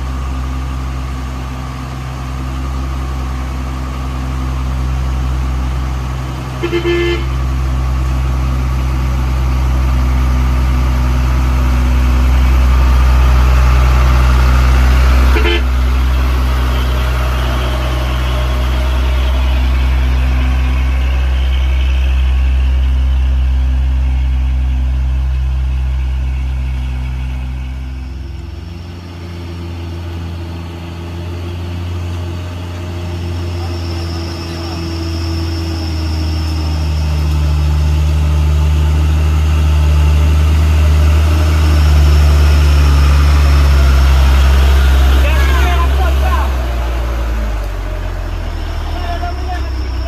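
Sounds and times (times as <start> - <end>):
heavy vehicle engine droning: 0.0 - 50.0.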